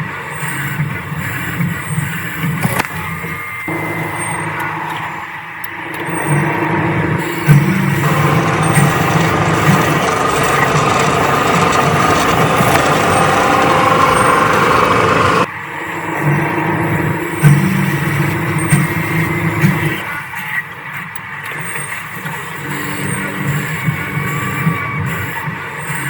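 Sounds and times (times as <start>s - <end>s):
metal lathe cutting steel: 0.1s - 26.0s.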